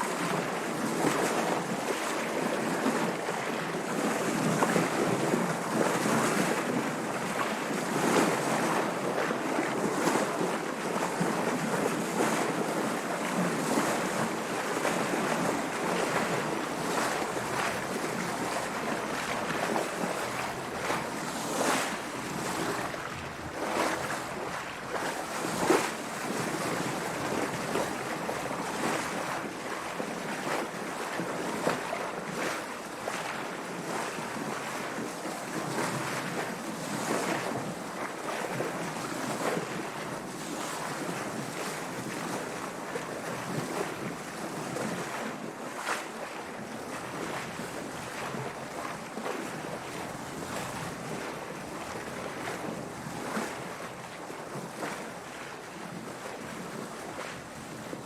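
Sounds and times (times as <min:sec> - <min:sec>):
water splashing against boat hull: 0:00.1 - 0:58.0.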